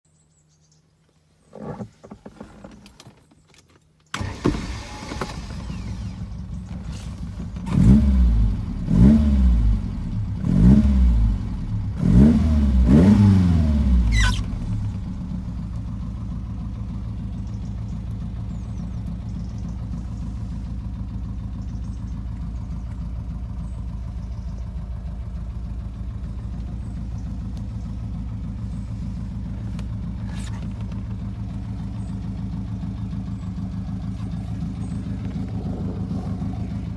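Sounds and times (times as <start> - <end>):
car engine starting and revving: 4.1 - 36.9.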